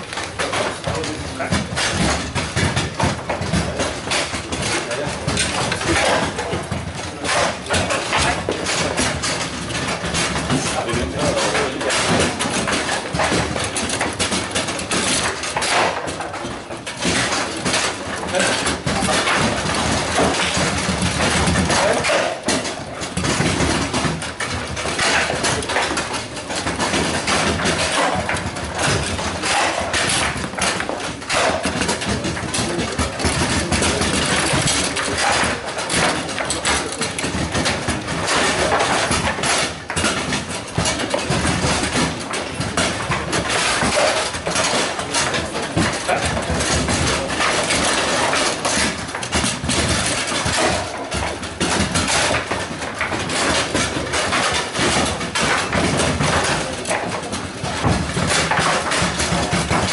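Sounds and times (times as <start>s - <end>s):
rods banging and rattling: 0.0s - 59.9s
table football ball clatter: 0.0s - 59.9s.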